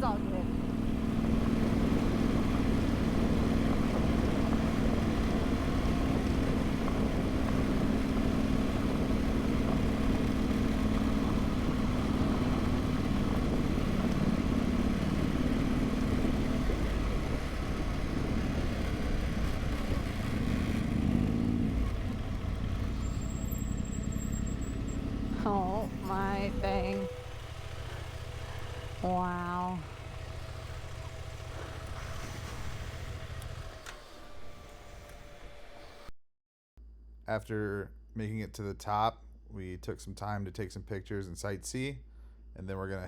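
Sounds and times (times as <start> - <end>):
motorcycle engine pulling: 0.0 - 34.7
wind and road noise: 0.0 - 36.1.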